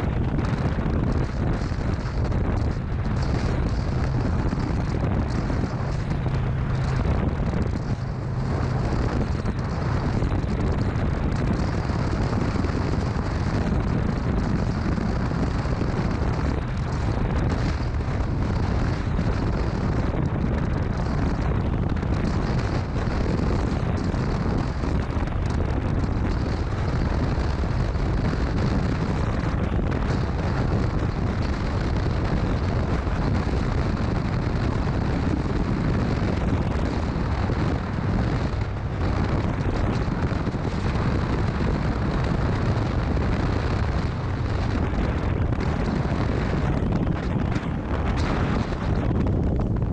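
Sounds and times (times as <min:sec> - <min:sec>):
motorcycle engine: 0:00.0 - 0:49.9
road noise: 0:00.0 - 0:49.9
wind buffeting microphone: 0:00.0 - 0:49.9.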